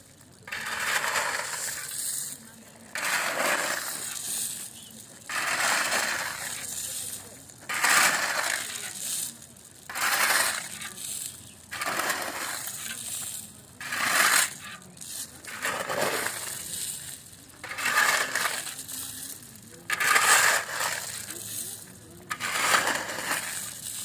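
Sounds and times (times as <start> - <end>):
gritty crunching and scraping strokes: 0.0 - 24.0.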